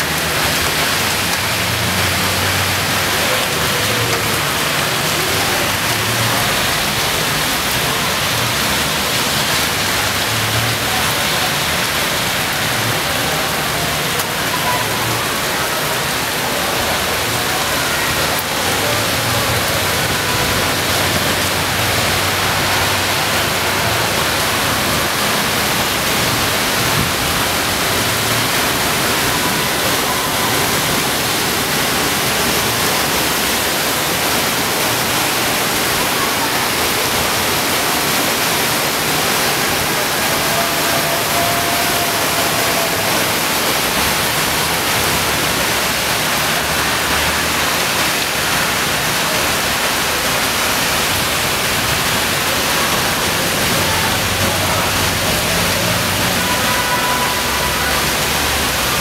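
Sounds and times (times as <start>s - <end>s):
floodwater rushing: 0.0s - 59.0s
heavy rain pouring: 0.0s - 59.0s.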